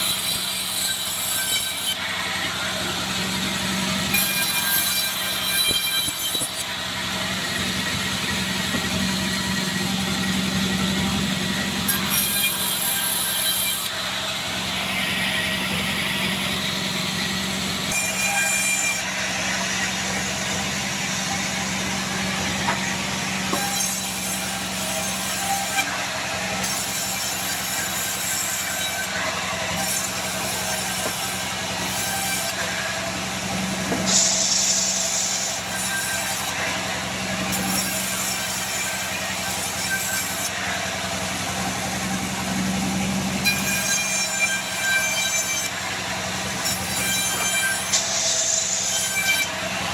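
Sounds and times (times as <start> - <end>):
band saw motor hum: 0.0 - 28.2, 29.1 - 49.9
saw blade cutting log: 0.0 - 49.9.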